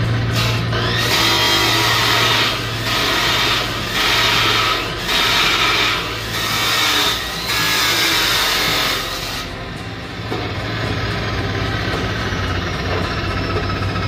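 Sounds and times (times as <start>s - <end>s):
chop saw grinding steel: 0.0s - 14.0s
motor hum: 0.0s - 14.0s.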